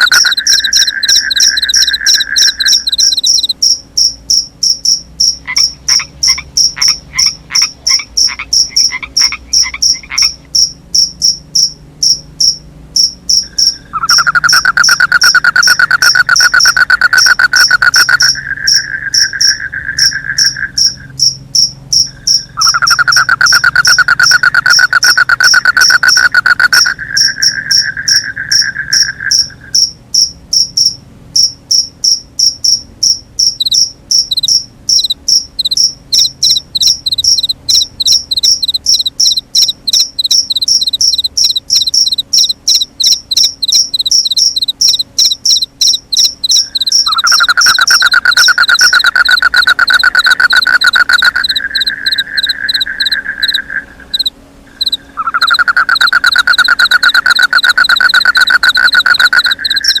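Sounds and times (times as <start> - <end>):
crickets chirping: 0.0 - 60.0
low continuous insect trill: 0.0 - 60.0.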